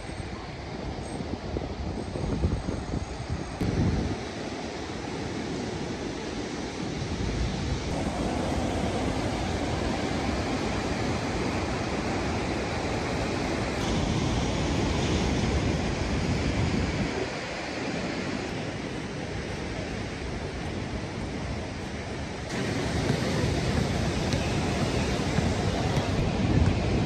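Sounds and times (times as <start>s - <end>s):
wind on microphone: 0.0s - 6.0s, 6.8s - 27.0s
ocean surf breaking: 4.1s - 27.0s.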